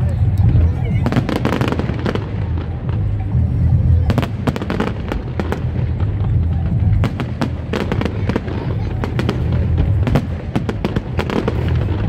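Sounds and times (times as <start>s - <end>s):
fireworks cracks and bangs: 0.0s - 12.0s
steady low rumble: 0.0s - 12.0s.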